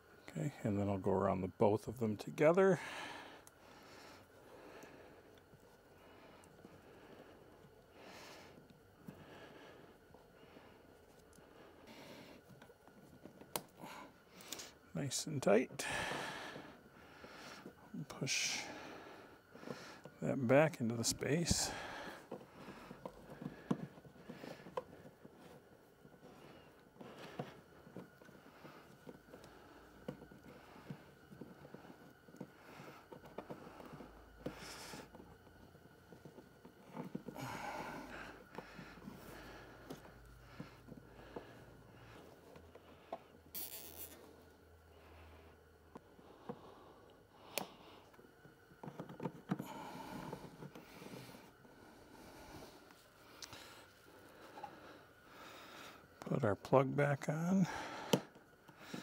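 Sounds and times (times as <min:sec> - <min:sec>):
soft rustling of wiring: 0:03.4 - 0:59.0.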